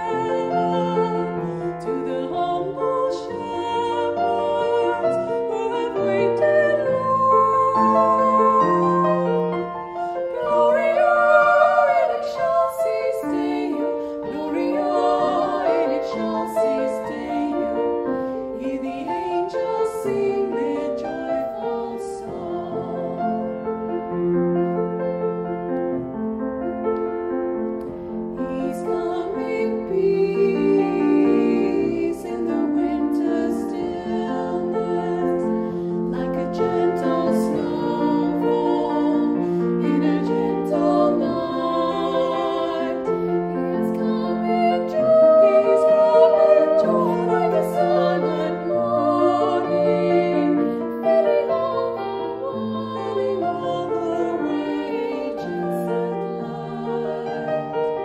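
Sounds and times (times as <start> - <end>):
two women singing: 0.0 - 24.1, 28.2 - 58.0
grand piano: 0.0 - 58.0.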